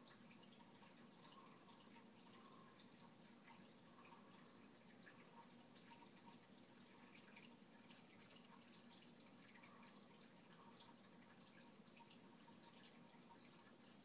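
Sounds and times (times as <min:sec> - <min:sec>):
faint low hum: 0:00.0 - 0:14.0
water dripping and trickling: 0:00.0 - 0:14.0.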